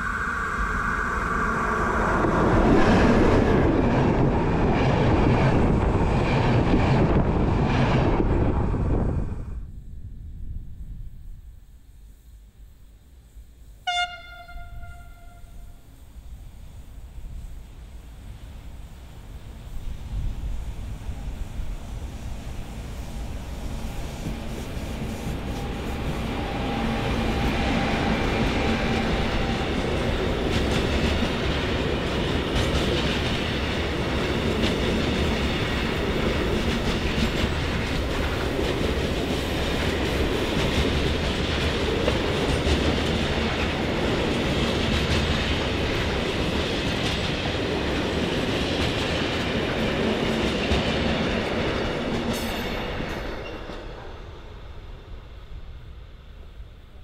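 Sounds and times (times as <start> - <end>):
freight train rolling past: 0.0 - 11.5, 12.9 - 57.0.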